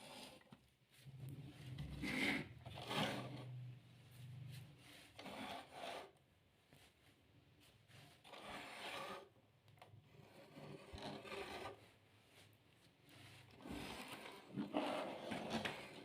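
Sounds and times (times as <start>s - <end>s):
objects rubbing and scraping: 0.0s - 7.0s, 7.6s - 16.0s.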